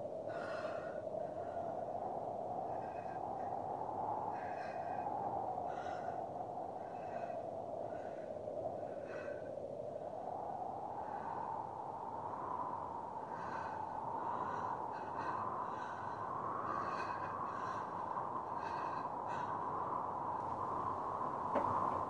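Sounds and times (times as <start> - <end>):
woman breathing in distress: 0.1 - 11.8, 12.7 - 20.8.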